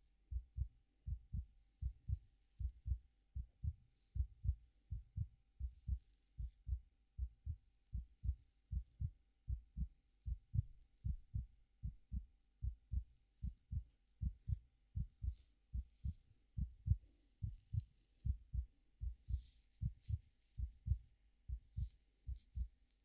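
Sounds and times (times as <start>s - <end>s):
heartbeat thumps: 0.3s - 22.9s.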